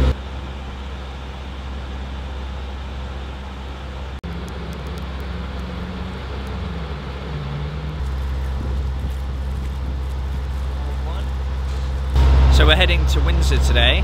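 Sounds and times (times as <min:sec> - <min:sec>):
boat diesel engine rumbling: 0:00.0 - 0:14.0.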